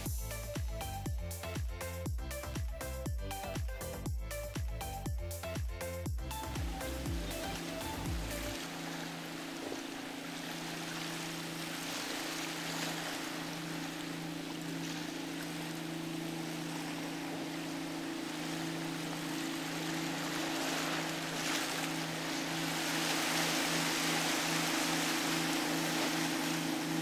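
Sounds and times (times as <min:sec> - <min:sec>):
boat engine running: 0:00.0 - 0:27.0
waves: 0:00.0 - 0:27.0
wind: 0:00.0 - 0:27.0.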